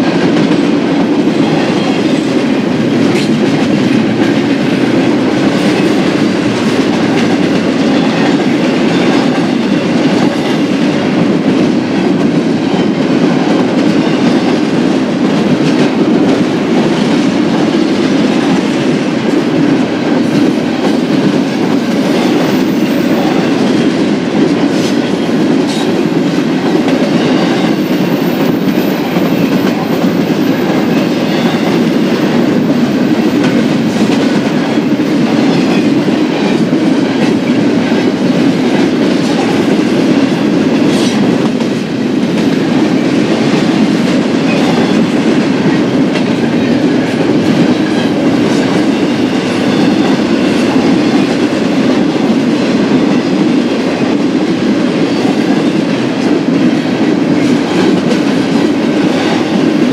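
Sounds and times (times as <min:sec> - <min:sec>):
train wheels running on rails: 0:00.0 - 0:59.9.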